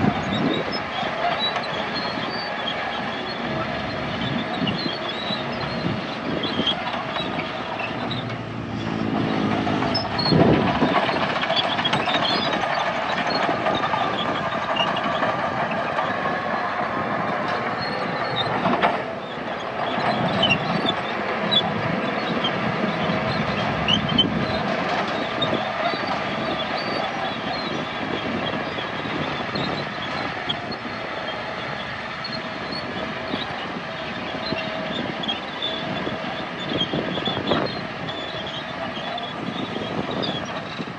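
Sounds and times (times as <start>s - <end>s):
heavy diesel machinery running: 0.0s - 40.9s
metallic squeaks and clanks: 0.0s - 40.9s.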